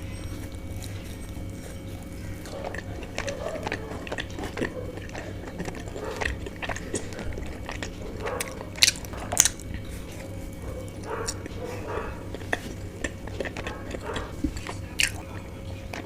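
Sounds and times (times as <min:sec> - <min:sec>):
wet chewing mouth clicks: 0:00.0 - 0:16.0.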